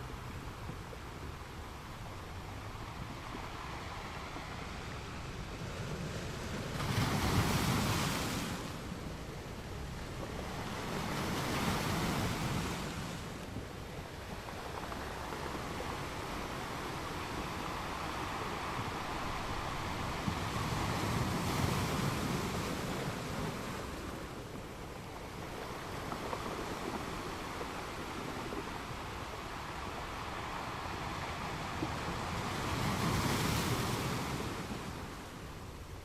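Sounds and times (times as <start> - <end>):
ocean waves breaking on beach: 0.0 - 36.0.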